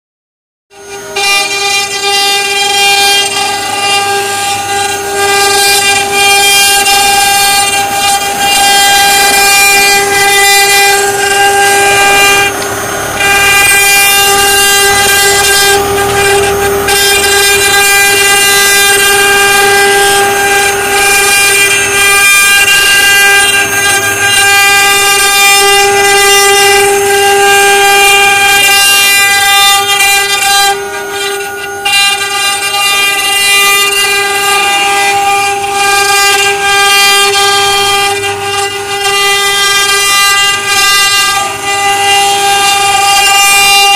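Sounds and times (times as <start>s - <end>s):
router motors whining: 0.7s - 43.9s
router bits rasping wood: 0.8s - 43.9s.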